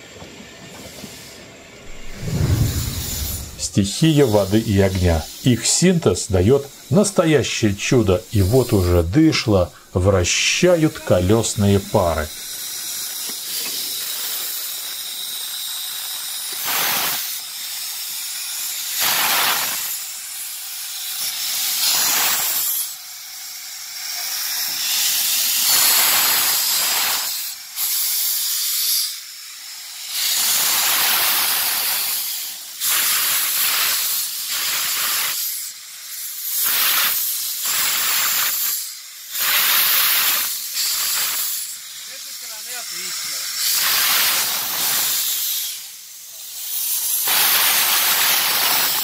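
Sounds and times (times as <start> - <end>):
steam locomotive hissing: 0.0 - 49.0.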